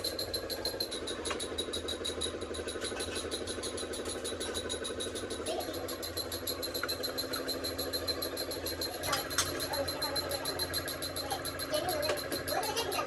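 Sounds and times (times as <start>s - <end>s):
machine running with fast ticking: 0.0s - 13.0s.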